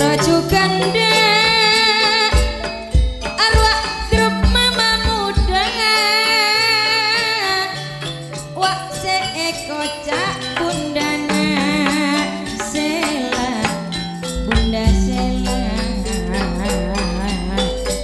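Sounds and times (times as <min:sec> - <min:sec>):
gamelan ensemble music: 0:00.0 - 0:18.0
woman singing: 0:00.0 - 0:18.0.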